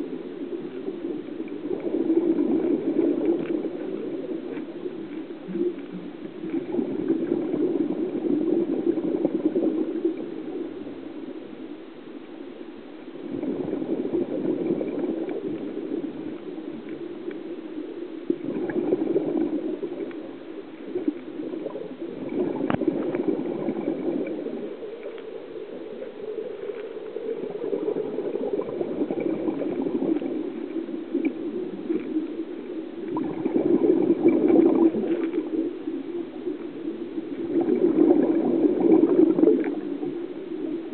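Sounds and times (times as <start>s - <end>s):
underwater bubbles gurgling: 0.0s - 40.9s.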